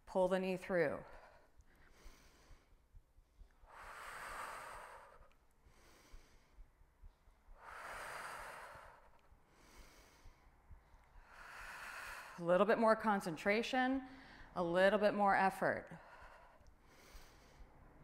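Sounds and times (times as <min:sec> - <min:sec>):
woman breathing: 0:00.7 - 0:13.0, 0:14.0 - 0:15.0, 0:15.6 - 0:18.0.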